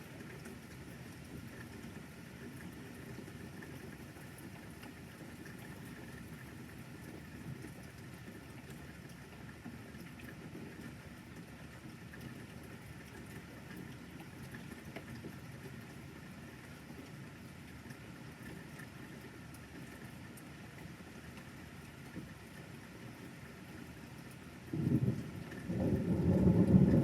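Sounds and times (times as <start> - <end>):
light rain falling: 0.0 - 27.0.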